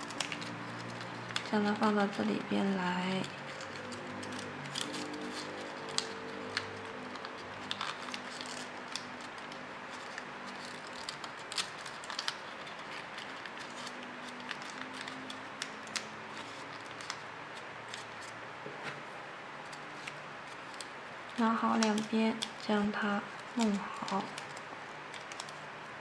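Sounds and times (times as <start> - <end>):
paper crinkling: 0.0 - 26.0.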